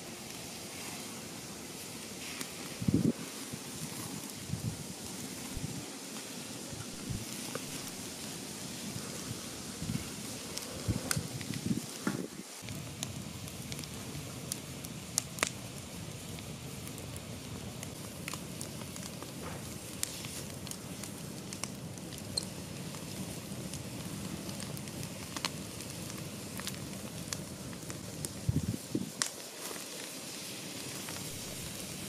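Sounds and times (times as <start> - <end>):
campfire burning: 0.0 - 32.0
fire crackling and popping: 0.0 - 32.0.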